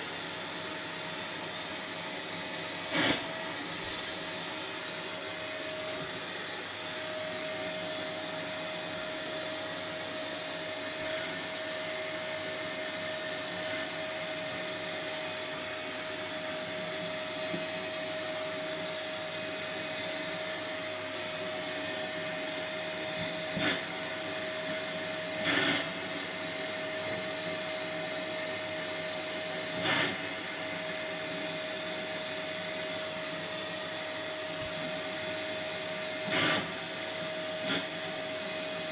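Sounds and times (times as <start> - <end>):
vacuum cleaner whining: 0.0 - 38.9.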